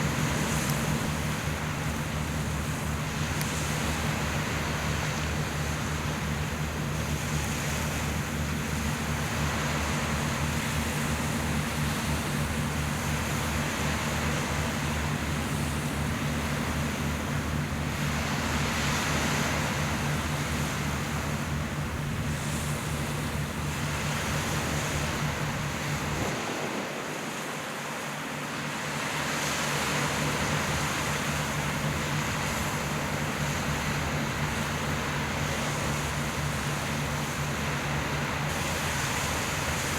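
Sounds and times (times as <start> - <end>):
boat engine humming: 0.0 - 39.9
sea waves washing: 0.0 - 39.9
wind: 0.0 - 39.9.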